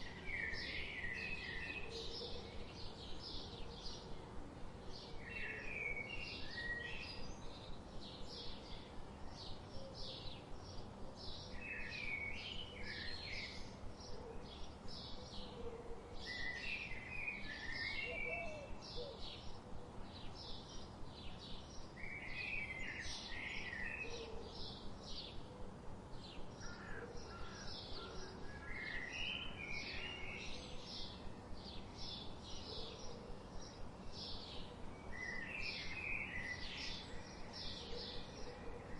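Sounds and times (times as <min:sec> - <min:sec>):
bird chirping steadily: 0:00.0 - 0:38.9.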